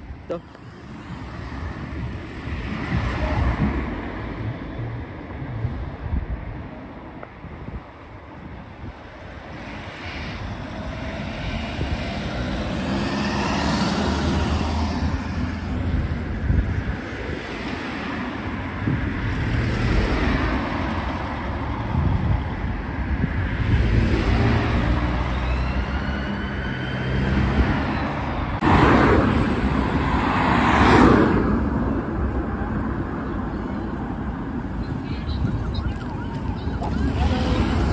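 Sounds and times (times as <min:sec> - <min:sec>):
vehicles driving by: 0:00.0 - 0:37.9.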